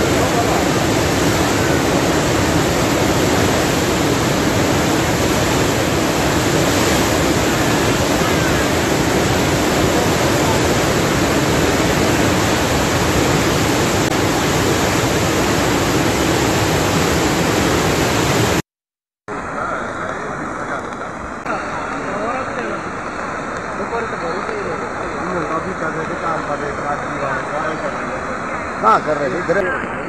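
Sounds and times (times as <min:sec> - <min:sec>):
river torrent rushing: 0:00.0 - 0:18.6, 0:19.3 - 0:30.0.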